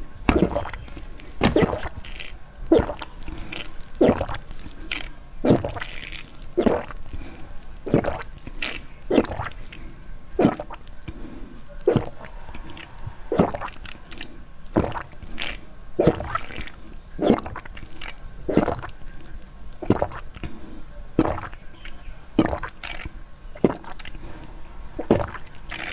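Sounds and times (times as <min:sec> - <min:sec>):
wet squishy chewing: 0:00.3 - 0:25.9.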